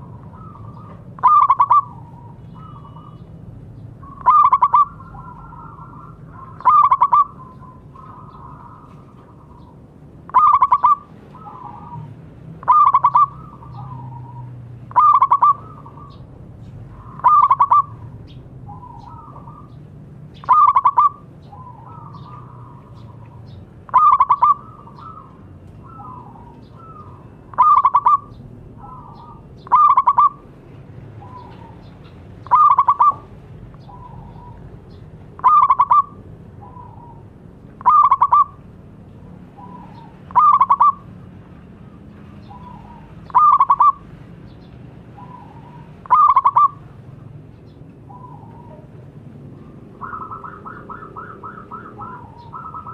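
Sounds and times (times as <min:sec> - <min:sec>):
dove cooing: 0:00.0 - 0:03.3, 0:04.0 - 0:16.3, 0:16.9 - 0:19.8, 0:20.4 - 0:30.5, 0:31.2 - 0:38.6, 0:39.5 - 0:41.1, 0:42.4 - 0:44.1, 0:45.2 - 0:47.0, 0:48.1 - 0:52.9.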